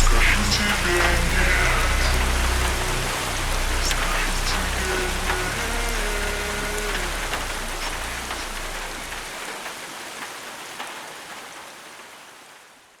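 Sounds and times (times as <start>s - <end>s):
sharp raindrops: 0.0s - 13.0s
steady rain: 0.0s - 13.0s.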